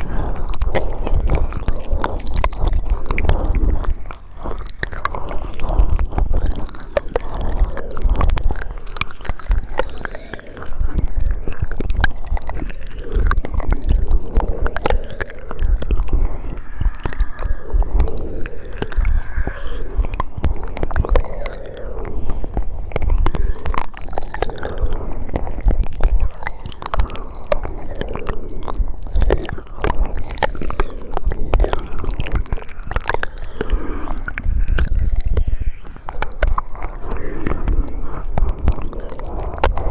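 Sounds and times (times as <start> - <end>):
mouth clicks and smacks: 0.0 - 39.9.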